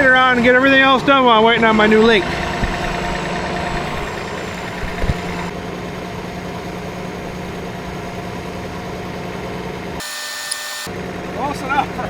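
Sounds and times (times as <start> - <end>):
harvester engine idling: 0.0 - 12.0.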